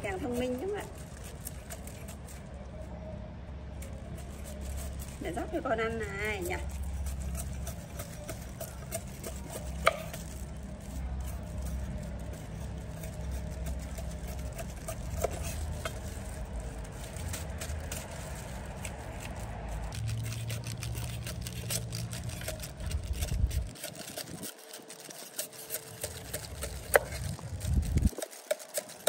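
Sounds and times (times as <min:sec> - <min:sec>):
knife scraping sugarcane: 0:00.0 - 0:02.6, 0:03.7 - 0:29.0.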